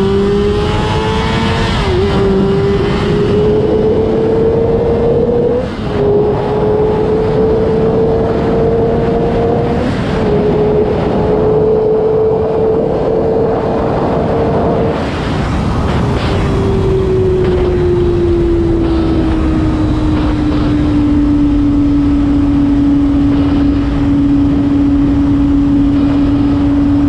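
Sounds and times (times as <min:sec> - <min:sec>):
motorcycle engine at high revs: 0:00.0 - 0:27.0
wind rush: 0:00.0 - 0:27.0.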